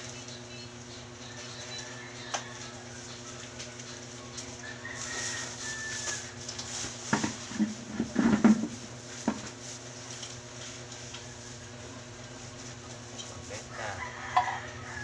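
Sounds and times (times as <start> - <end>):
plastic waste clattering and rustling: 1.3 - 15.0.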